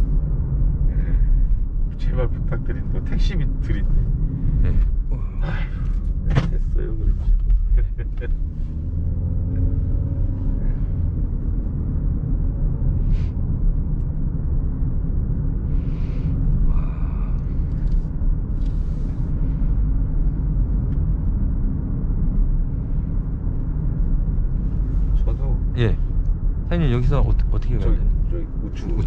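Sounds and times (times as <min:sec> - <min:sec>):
road and drivetrain rumble: 0:00.0 - 0:29.0.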